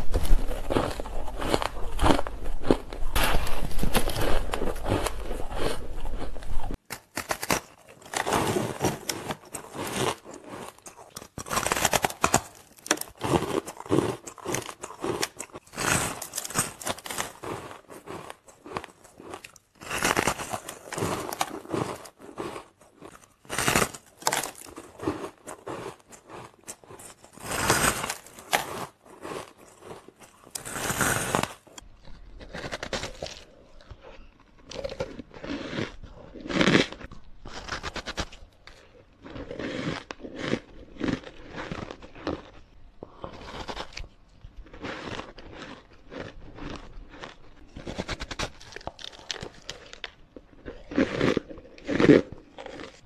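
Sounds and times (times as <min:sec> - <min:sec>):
ice being crunched and chewed: 0:00.0 - 0:53.0.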